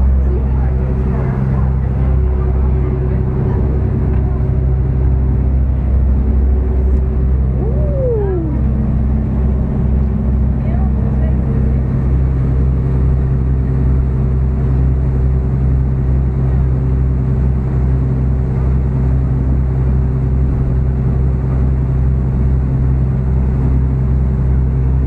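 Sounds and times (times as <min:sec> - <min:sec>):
boat engine droning: 0:00.0 - 0:25.0
water churning in wake: 0:00.0 - 0:25.0.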